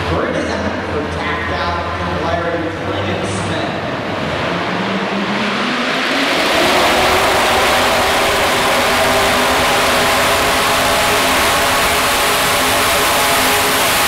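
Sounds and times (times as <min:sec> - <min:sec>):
truck engine at high revs: 0:02.7 - 0:14.0.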